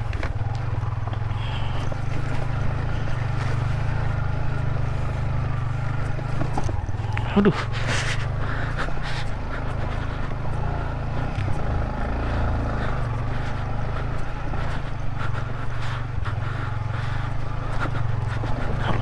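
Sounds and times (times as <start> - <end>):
knocks and rattles of bike: 0.0 - 19.0
motorcycle engine running: 0.0 - 19.0.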